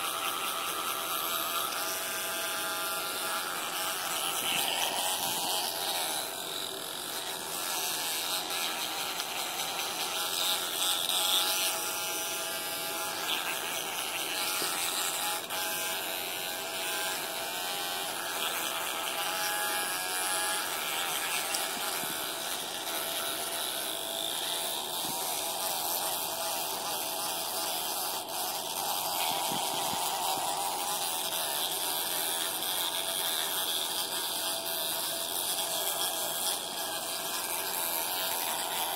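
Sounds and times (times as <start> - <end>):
electric toothbrush buzzing: 0.0 - 38.9.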